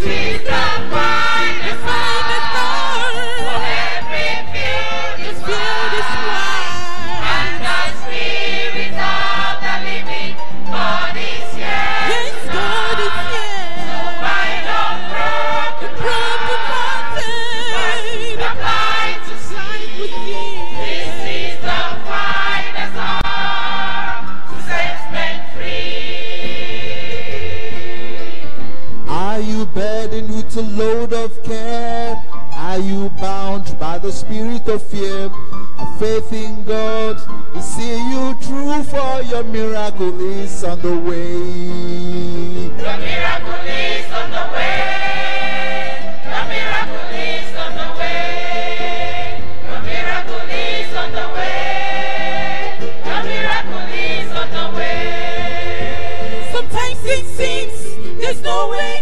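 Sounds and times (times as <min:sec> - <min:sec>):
choir singing gospel: 0:00.0 - 0:35.3, 0:38.9 - 0:59.0.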